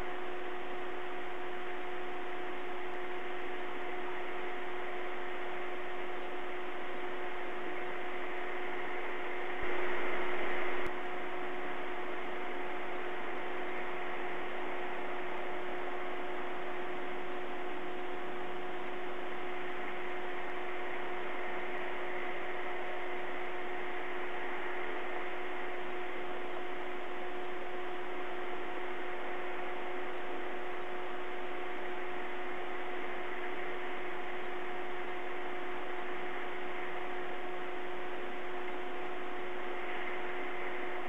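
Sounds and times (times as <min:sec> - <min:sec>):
low two-note hum: 0:00.0 - 0:41.0
electronic hiss: 0:03.9 - 0:18.2, 0:18.8 - 0:41.0.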